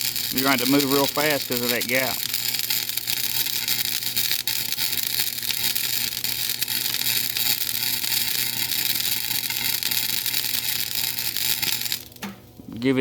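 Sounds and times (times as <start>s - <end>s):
welder arc crackling and hissing: 0.0s - 12.5s.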